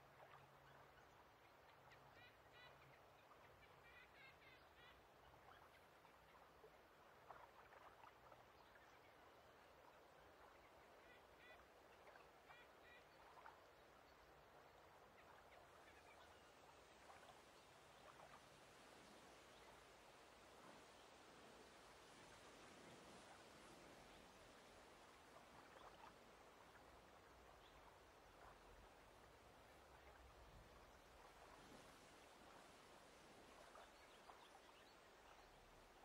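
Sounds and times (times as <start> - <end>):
soft steady hiss: 0.0 - 36.0.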